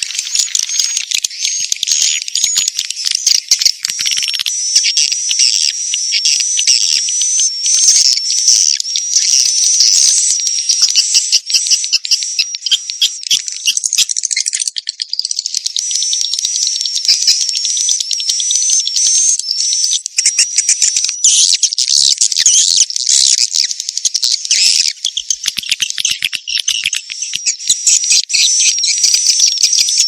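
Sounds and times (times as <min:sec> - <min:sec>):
swiftlet lure call chatter: 0:00.0 - 0:30.0.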